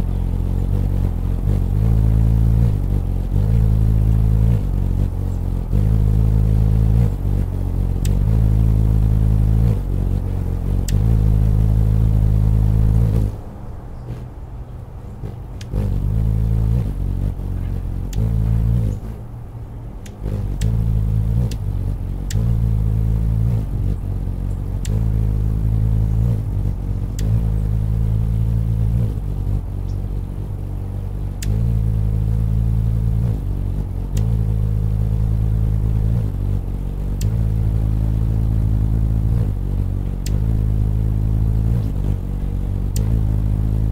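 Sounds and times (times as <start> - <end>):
hummingbird wingbeats humming: 0.0 - 43.9.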